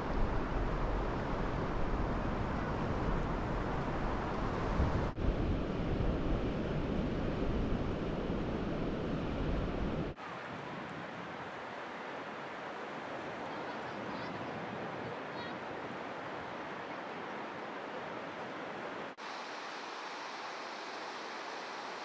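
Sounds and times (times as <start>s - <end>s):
wind rumbling on microphone: 0.0s - 18.8s
ocean surf washing onto beach: 0.0s - 22.0s.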